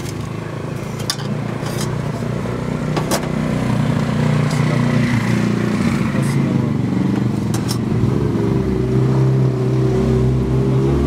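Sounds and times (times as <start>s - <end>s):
street traffic: 0.0s - 11.0s
vehicle engine running: 0.0s - 11.0s.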